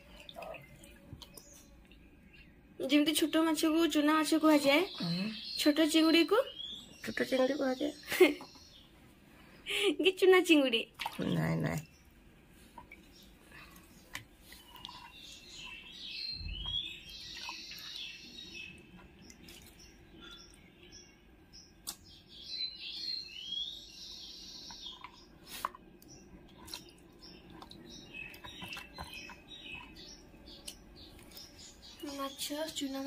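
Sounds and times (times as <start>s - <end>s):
songbird chirping: 0.0s - 33.0s.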